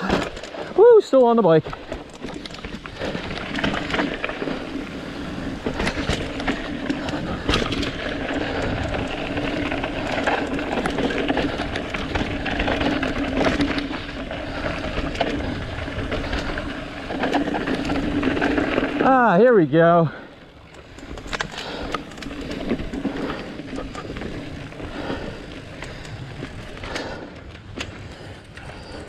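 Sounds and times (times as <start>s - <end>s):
bike rattles and knocks: 0.0s - 29.0s
bike tyres rolling over dirt: 0.0s - 29.0s.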